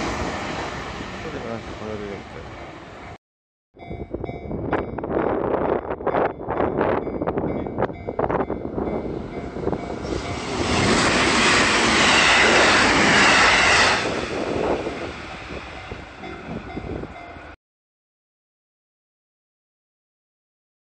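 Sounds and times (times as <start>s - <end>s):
electric train passing: 0.0s - 3.2s, 3.8s - 17.6s.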